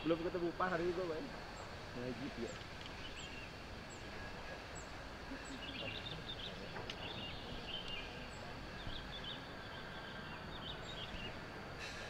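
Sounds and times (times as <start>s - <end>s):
outdoor hiss: 0.0s - 12.0s
small birds singing: 0.0s - 12.0s.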